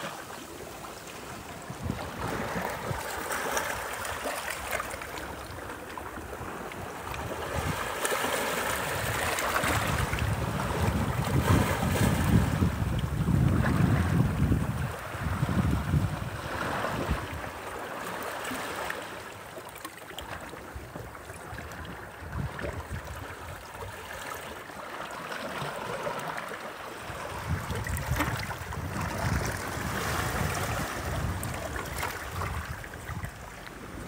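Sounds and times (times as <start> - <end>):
sea waves washing ashore: 0.0 - 34.0.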